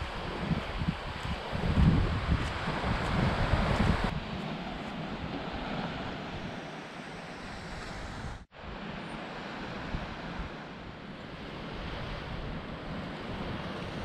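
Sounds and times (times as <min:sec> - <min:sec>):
low surf washing on shore: 0:00.0 - 0:14.0
wind buffeting microphone: 0:00.0 - 0:14.0.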